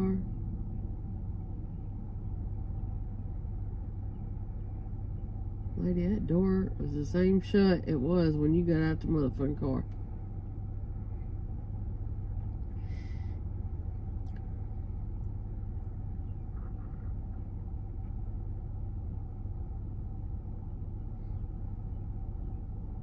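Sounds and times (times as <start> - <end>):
car idling: 0.0 - 23.0.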